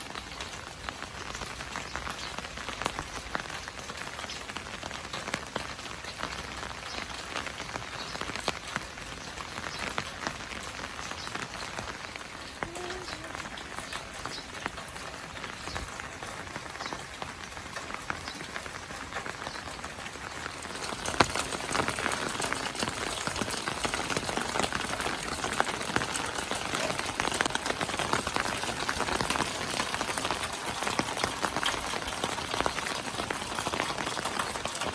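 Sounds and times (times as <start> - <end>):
rain drops ticking on surface: 0.0 - 34.9.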